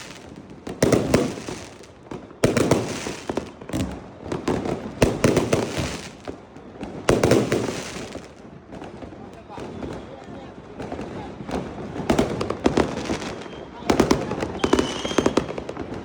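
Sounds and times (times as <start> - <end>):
fireworks bangs and crackle: 0.0 - 16.0.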